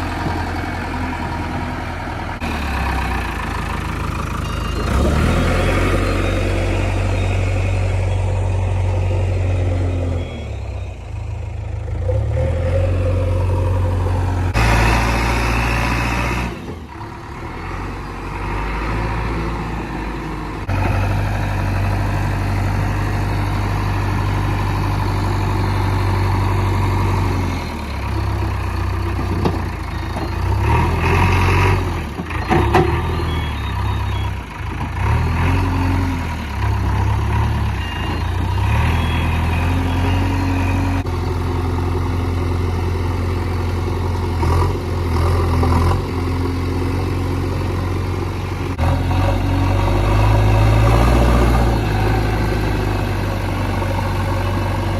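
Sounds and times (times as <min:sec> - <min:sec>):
backhoe diesel engine rumbling: 0:00.0 - 0:54.9.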